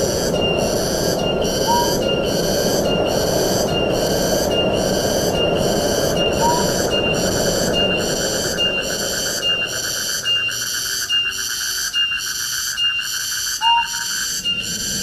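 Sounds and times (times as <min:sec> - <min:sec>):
high chirring call: 0:00.0 - 0:04.6, 0:05.3 - 0:15.0
wind through trees: 0:00.0 - 0:15.0.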